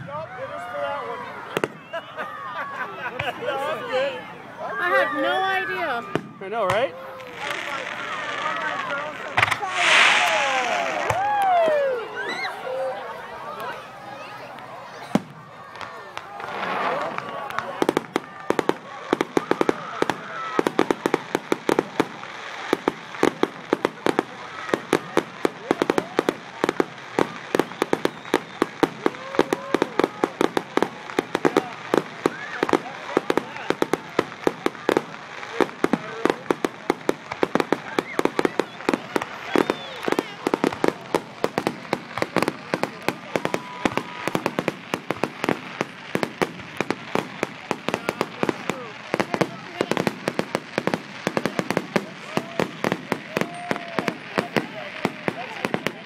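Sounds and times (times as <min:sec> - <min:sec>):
fireworks bangs and pops: 0:01.5 - 0:01.9, 0:06.0 - 0:11.9, 0:14.5 - 0:56.0.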